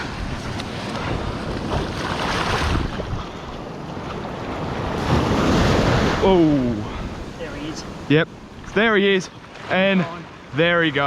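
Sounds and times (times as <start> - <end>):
wind buffeting microphone: 0.0 - 9.2
surf washing in: 0.0 - 11.0.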